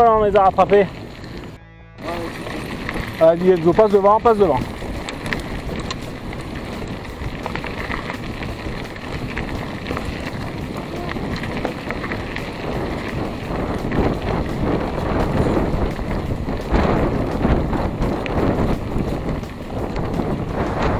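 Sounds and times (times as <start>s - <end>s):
bike rattling clicks: 0.0s - 1.6s, 2.3s - 20.9s
tyres rolling over dirt: 0.0s - 20.9s
wind rushing over microphone: 0.0s - 20.9s.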